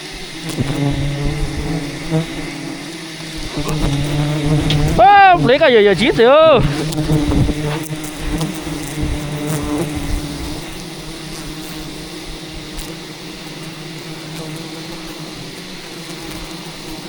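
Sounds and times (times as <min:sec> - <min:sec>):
bees buzzing in a swarm: 0:00.0 - 0:17.0.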